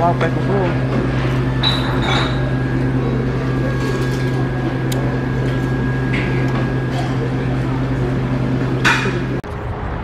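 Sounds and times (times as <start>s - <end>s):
restaurant dining room hum: 0.0s - 10.0s.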